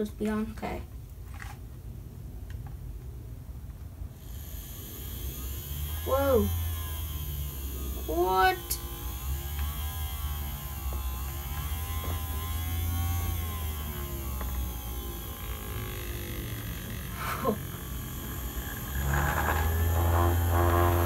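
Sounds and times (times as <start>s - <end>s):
small motors humming and whirring: 4.1s - 21.0s.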